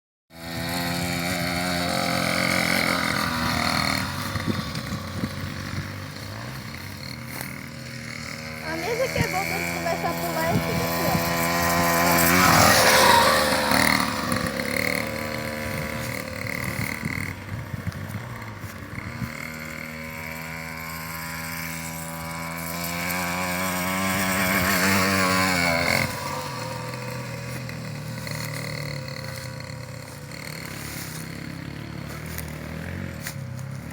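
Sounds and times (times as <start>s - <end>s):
motocross bike engine revving: 0.3s - 33.9s.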